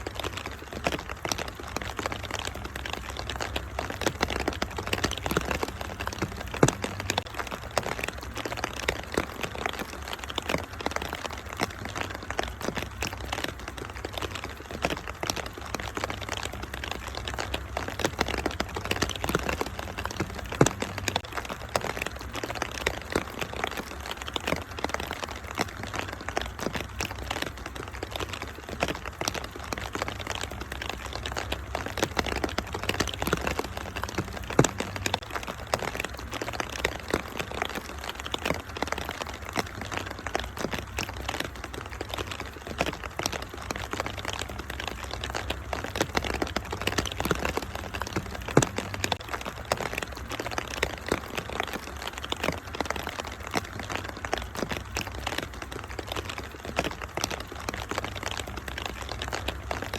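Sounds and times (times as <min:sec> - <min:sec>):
rain hiss: 0:00.0 - 0:59.9
wood fire crackling: 0:00.0 - 0:59.9.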